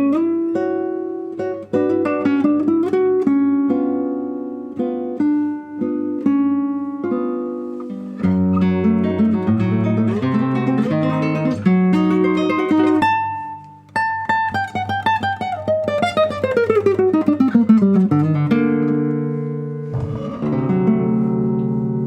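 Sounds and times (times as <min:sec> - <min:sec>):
classical guitar tremolo: 0:00.0 - 0:22.0.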